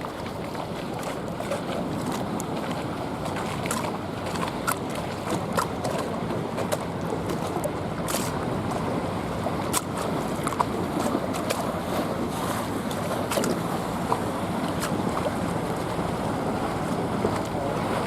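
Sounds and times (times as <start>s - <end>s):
small sharp splashes: 0.0s - 8.9s, 9.6s - 16.0s
water lapping: 0.0s - 18.0s.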